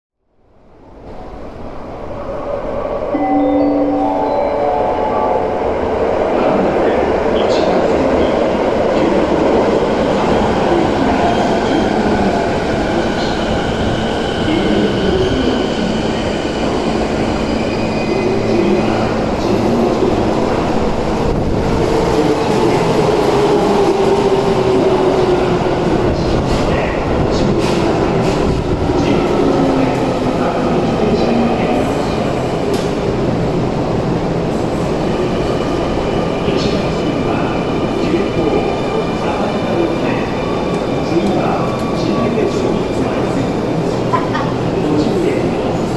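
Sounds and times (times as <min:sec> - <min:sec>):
train wheels rumbling on rails: 0:05.7 - 0:45.9.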